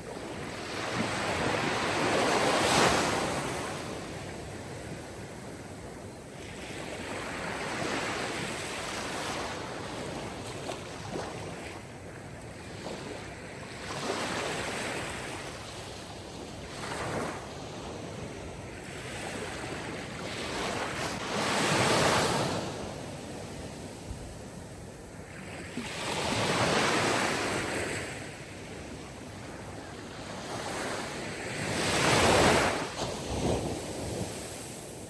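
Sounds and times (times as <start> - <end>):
sea waves breaking on shore: 0.0 - 5.3, 6.4 - 24.6, 25.2 - 35.0.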